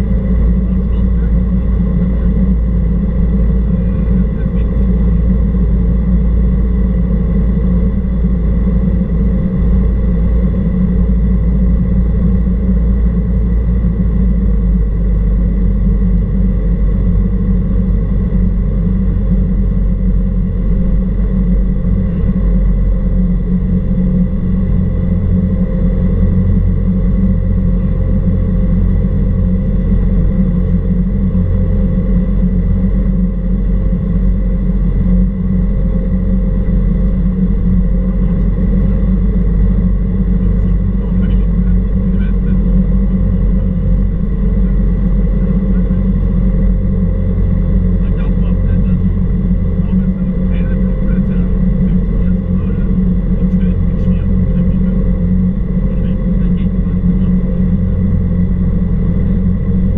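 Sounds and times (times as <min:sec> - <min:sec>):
airplane engine droning: 0:00.0 - 0:59.9.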